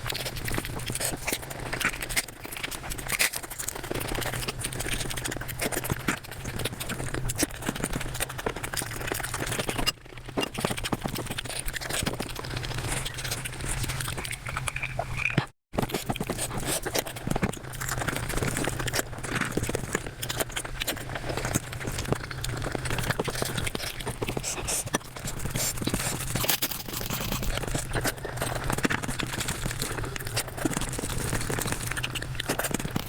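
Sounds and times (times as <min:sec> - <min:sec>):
sped-up chewing and crunching: 0:00.0 - 0:33.0.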